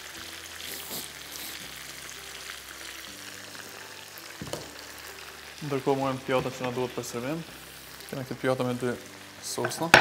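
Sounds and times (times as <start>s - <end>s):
food frying in oil: 0.0s - 10.0s.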